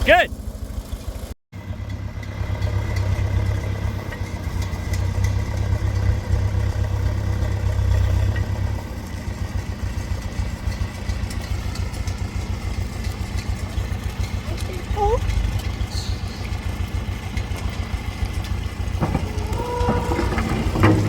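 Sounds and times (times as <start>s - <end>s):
backhoe engine rumbling: 0.0s - 21.0s.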